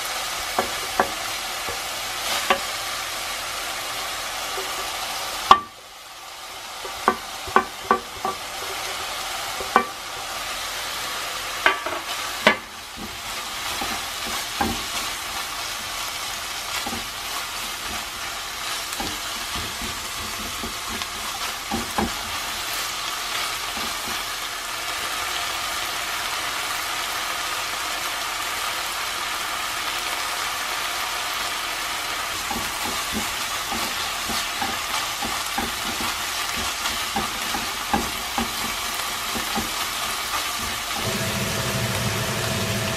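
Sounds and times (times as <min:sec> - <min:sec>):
food sizzling in a frying pan: 0:00.0 - 0:42.9.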